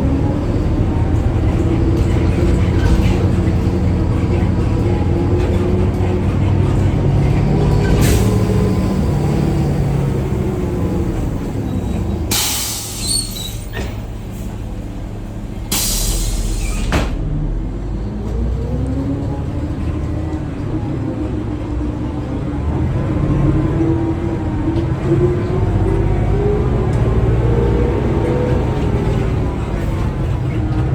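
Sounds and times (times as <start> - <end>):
bus engine running: 0.0 - 30.9.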